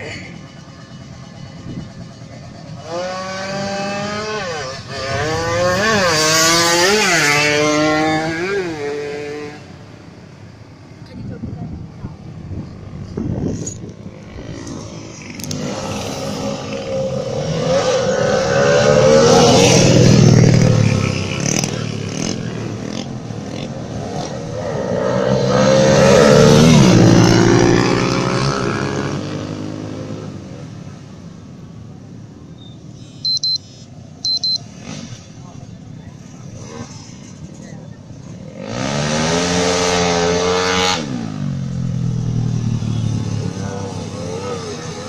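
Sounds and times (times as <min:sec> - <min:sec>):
racing motorcycles passing: 0:00.0 - 0:45.0.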